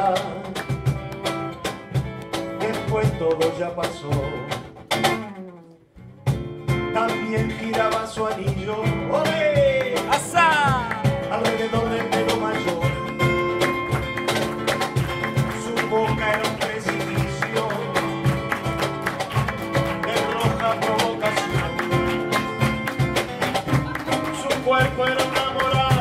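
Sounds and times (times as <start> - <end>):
hand percussion beat: 0.0 - 5.7, 6.3 - 26.0
acoustic guitar: 0.0 - 26.0.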